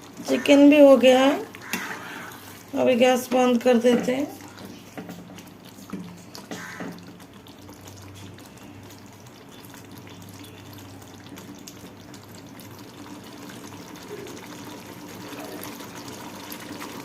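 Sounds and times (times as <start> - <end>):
gravy sizzling and bubbling: 0.0 - 17.0.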